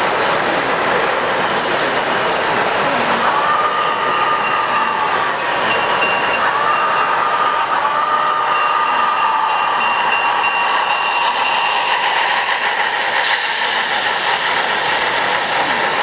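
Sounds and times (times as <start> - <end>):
model train rolling: 0.0 - 16.0.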